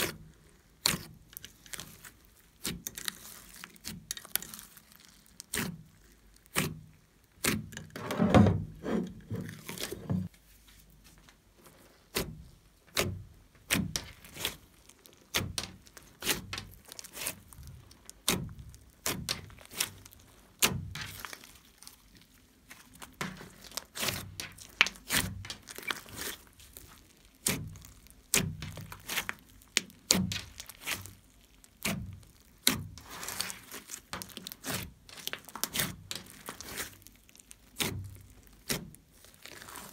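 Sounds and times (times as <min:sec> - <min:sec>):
slime squishing and popping: 0:00.0 - 0:07.9, 0:12.1 - 0:39.9.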